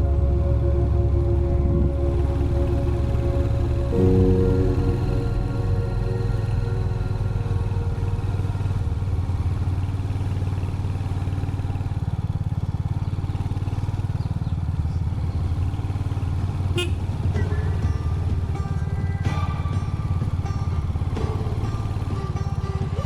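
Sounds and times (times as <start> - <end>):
motorcycle engine thumping: 1.6 - 23.0.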